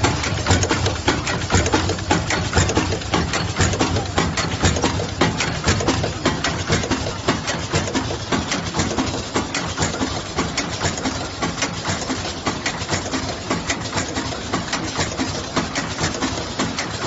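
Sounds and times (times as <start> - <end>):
machine rattling and clicking: 0.0 - 17.0.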